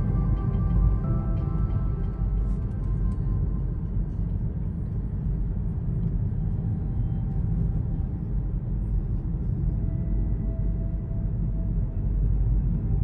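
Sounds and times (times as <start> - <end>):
car driving on highway from inside: 0.0 - 13.0.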